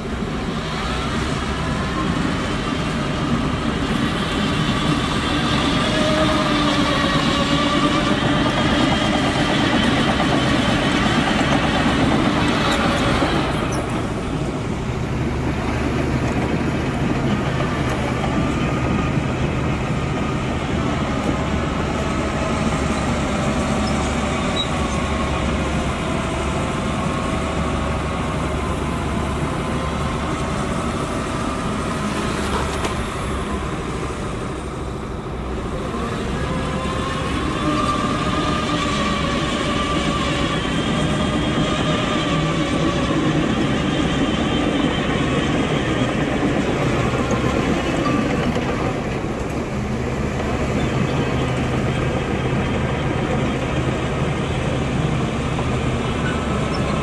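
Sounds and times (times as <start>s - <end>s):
diesel earthmoving machinery: 0.0s - 57.0s.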